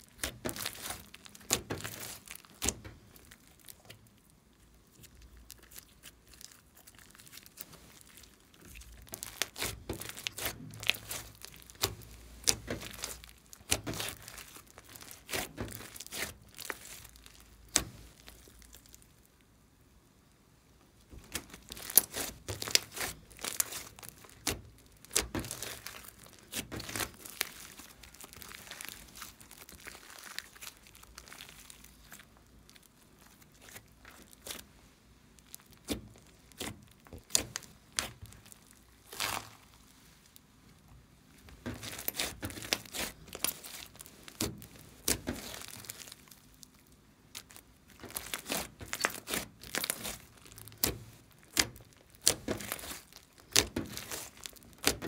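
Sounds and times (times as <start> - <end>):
sticky slime popping and crackling: 0.0 - 19.4, 21.1 - 55.0.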